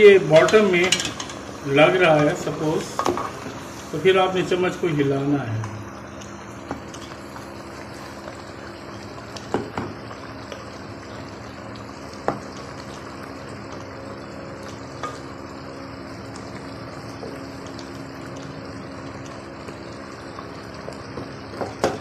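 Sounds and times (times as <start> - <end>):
curry simmering and bubbling: 0.0 - 22.0.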